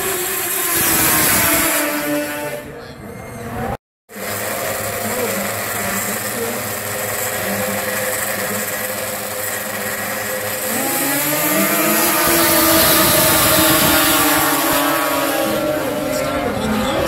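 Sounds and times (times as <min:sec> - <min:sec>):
snowmobile engines revving: 0:00.0 - 0:17.0.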